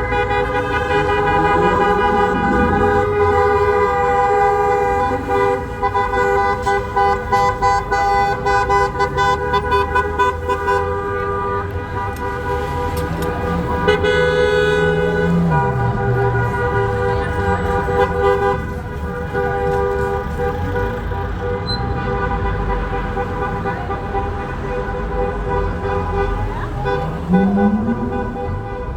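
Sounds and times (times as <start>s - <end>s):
car horns blaring: 0.0s - 28.9s.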